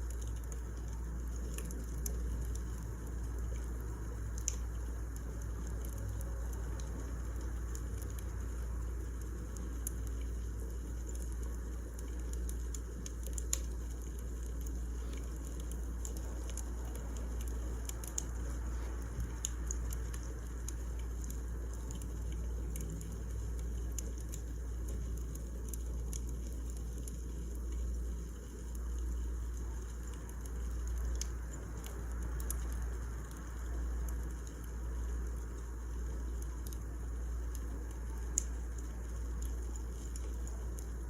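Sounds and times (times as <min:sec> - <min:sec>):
fire snapping: 0:00.0 - 0:41.0
wood fire crackling: 0:00.0 - 0:41.0.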